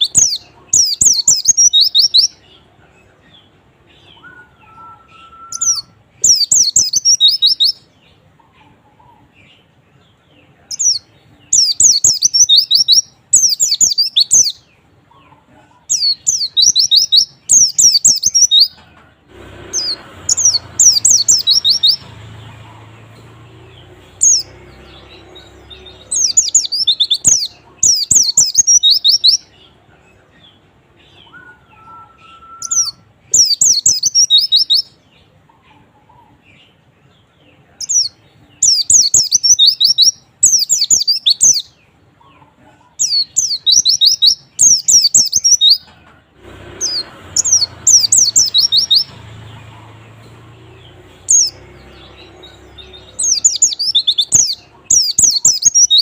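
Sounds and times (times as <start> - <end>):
bird twittering: 0.0 - 2.6, 4.0 - 9.3, 10.7 - 14.6, 15.2 - 18.8, 19.7 - 29.7, 31.1 - 34.9, 37.8 - 45.9, 46.8 - 56.0.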